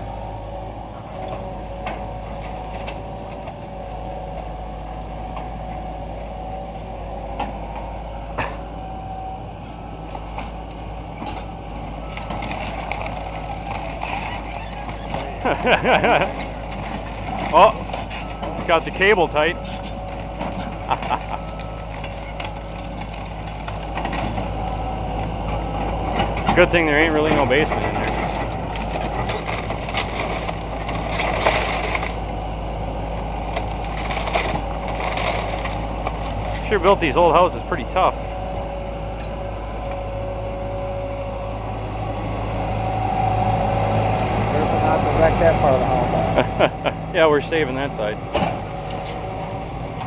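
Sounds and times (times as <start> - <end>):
backhoe engine running: 0.0 - 50.0.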